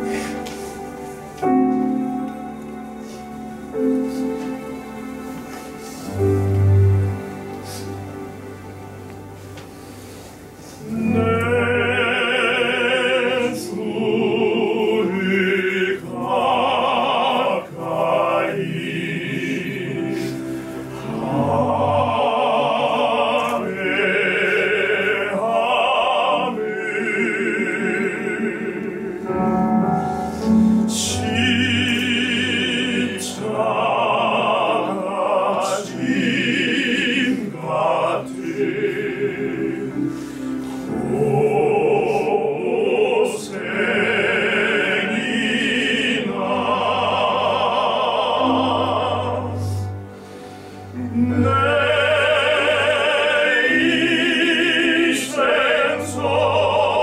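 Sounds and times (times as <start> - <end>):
male choir singing a hymn: 10.7 - 57.0.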